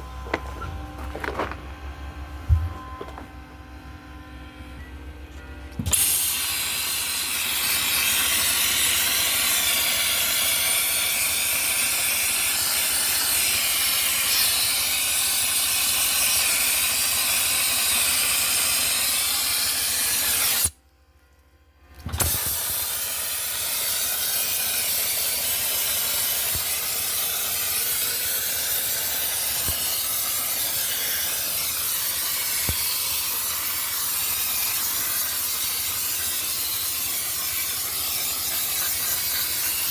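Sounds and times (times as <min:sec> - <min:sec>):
dry-ice blaster hissing: 0:05.8 - 0:20.8, 0:22.0 - 0:39.9.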